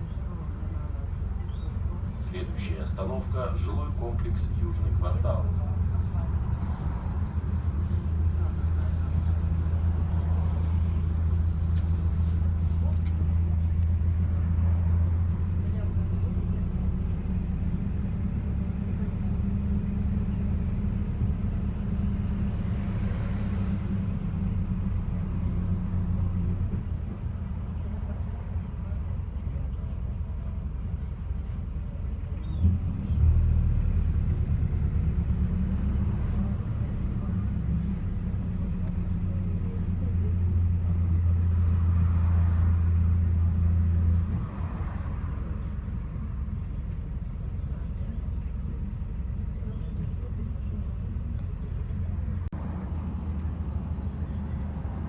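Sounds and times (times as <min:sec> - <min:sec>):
bus engine drone: 0:00.0 - 0:55.0
road and tyre noise: 0:00.0 - 0:55.0.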